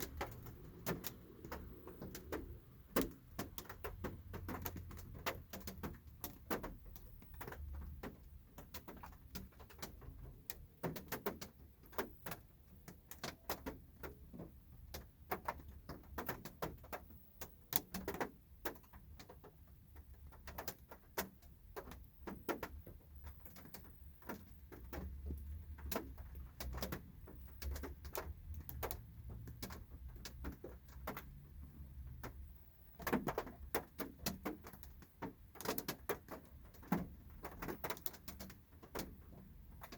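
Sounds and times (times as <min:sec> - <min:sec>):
raindrops tapping on car roof: 0:00.0 - 0:39.9.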